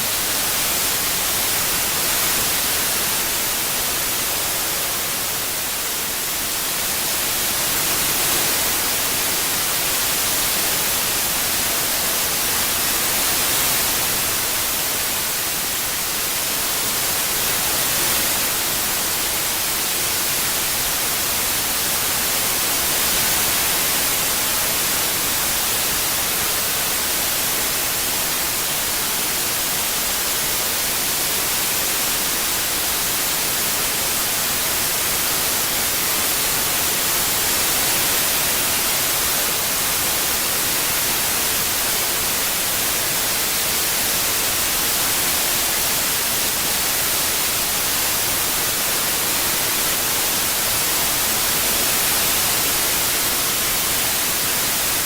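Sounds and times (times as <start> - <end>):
synthesized white noise: 0.0 - 55.0.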